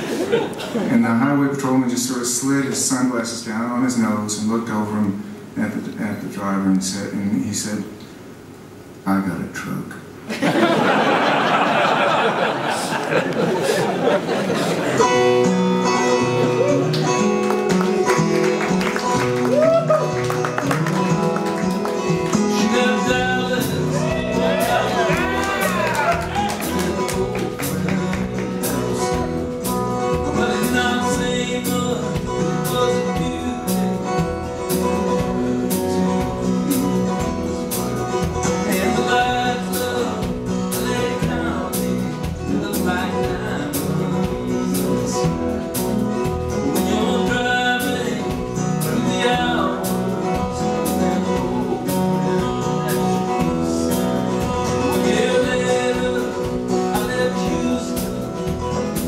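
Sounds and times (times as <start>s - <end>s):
live country band playing: 0.0s - 7.3s, 10.5s - 59.0s
guitars: 0.0s - 8.6s, 10.3s - 59.0s.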